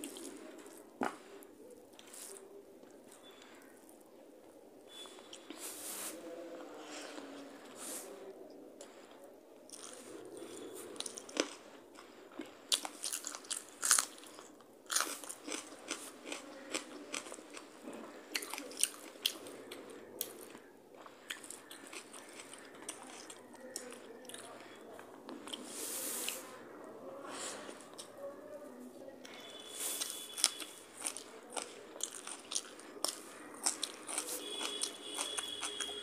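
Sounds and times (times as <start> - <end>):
chewing and crunching food: 0.0 - 5.6, 8.8 - 26.8, 29.1 - 36.0.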